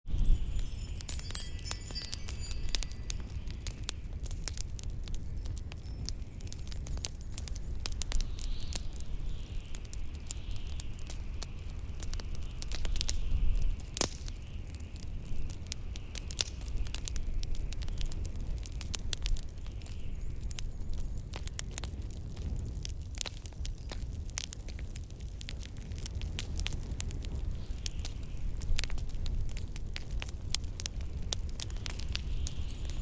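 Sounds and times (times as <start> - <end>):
strong wind rumble: 0.1 - 33.0
wood fire crackling and popping: 0.1 - 33.0.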